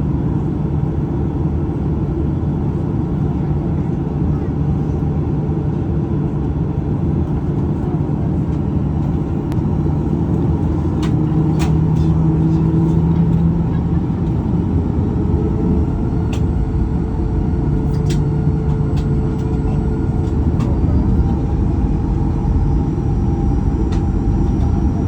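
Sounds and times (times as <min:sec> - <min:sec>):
airplane cabin engine hum: 0:00.0 - 0:25.0.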